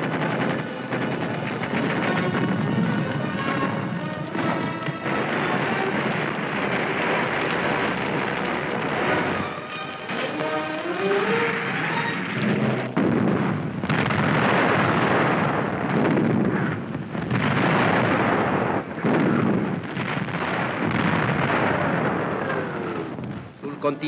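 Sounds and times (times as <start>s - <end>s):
rumble of explosions and artillery fire: 0.0s - 24.0s.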